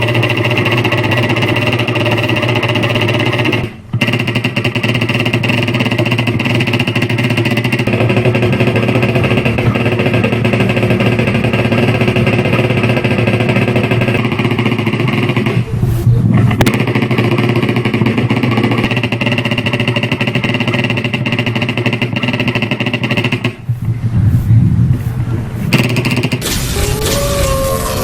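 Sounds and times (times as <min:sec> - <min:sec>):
toy gun rapid-fire rattle: 0:00.0 - 0:15.5, 0:16.5 - 0:23.6, 0:25.7 - 0:28.0.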